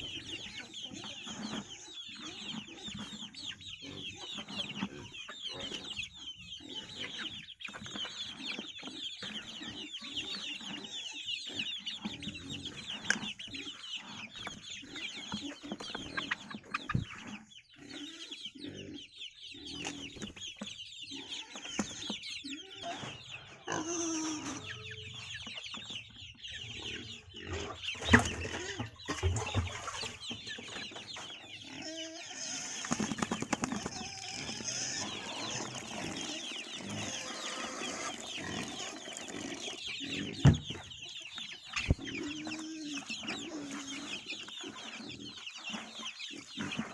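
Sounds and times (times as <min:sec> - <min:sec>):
chickens clucking: 0:00.0 - 0:46.9
chicks peeping: 0:00.0 - 0:46.9.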